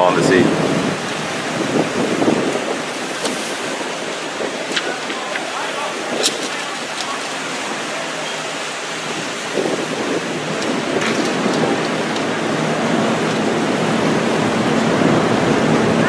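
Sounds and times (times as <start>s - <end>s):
waves surging against hull: 0.0s - 16.0s
wind on microphone: 0.0s - 16.0s.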